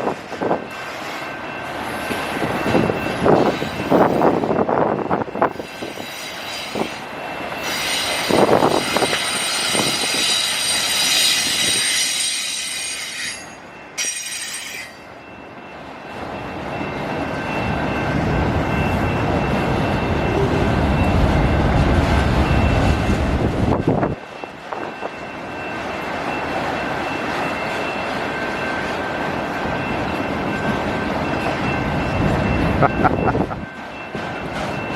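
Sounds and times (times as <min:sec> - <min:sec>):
train wheel squeal: 0:00.4 - 0:15.8, 0:22.4 - 0:34.9.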